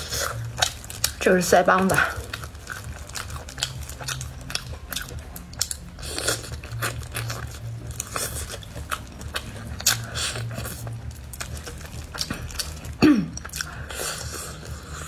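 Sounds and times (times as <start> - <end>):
biting and chewing clicks: 2.0 - 15.0.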